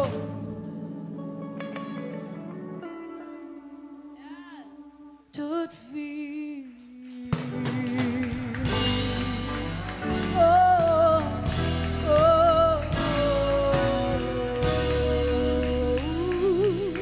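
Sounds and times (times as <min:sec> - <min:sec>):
woman singing: 0:00.0 - 0:00.6, 0:03.9 - 0:17.0
gospel band playing: 0:00.0 - 0:05.1, 0:07.2 - 0:17.0.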